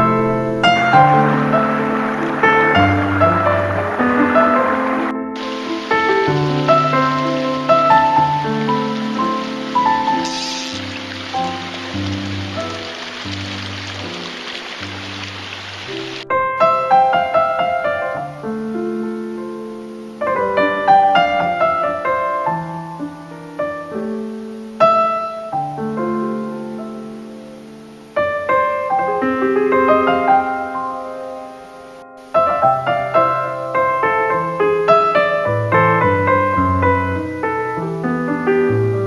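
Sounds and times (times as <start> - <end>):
slow solo piano piece: 0.0 - 39.0.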